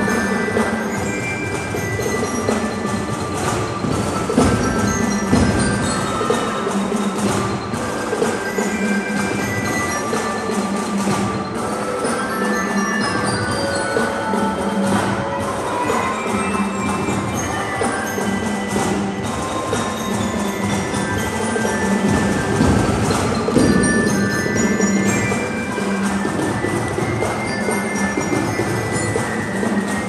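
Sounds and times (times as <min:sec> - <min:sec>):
mallet percussion ringing notes: 0:00.0 - 0:30.0
marching band drums: 0:00.0 - 0:30.0.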